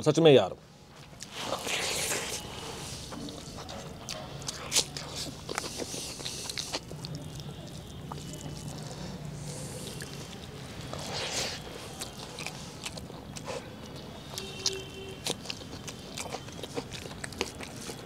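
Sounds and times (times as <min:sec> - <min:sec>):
chewing: 0:01.0 - 0:18.0.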